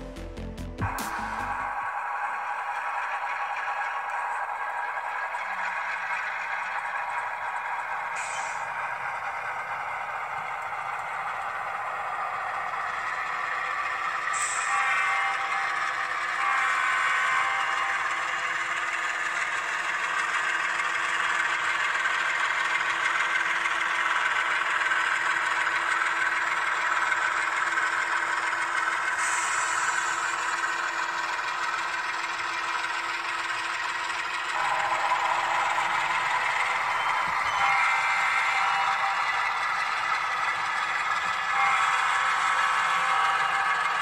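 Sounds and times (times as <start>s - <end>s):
model train diesel engine sound: 0.0s - 44.0s
model train wheels clattering: 2.6s - 44.0s.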